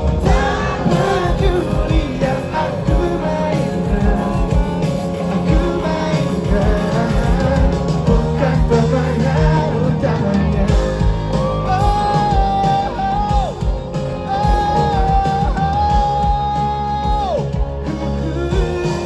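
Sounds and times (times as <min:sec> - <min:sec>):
person singing: 0:00.0 - 0:13.6, 0:14.2 - 0:19.0
drums beating: 0:00.0 - 0:19.0
live pop-rock band playing: 0:00.0 - 0:19.0
melody with bending long notes: 0:00.0 - 0:19.0.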